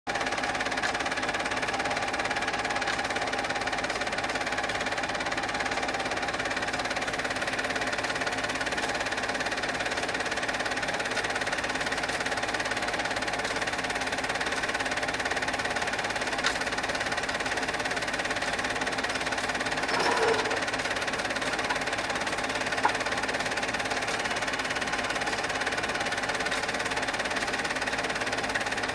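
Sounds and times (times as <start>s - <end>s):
film projector whirr and clatter: 0.1s - 28.9s.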